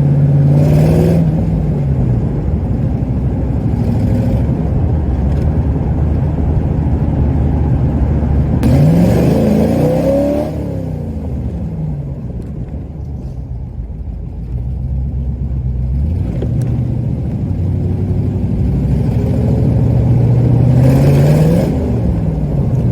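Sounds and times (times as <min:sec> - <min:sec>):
car engine revving: 0:00.0 - 0:12.6, 0:13.9 - 0:22.9.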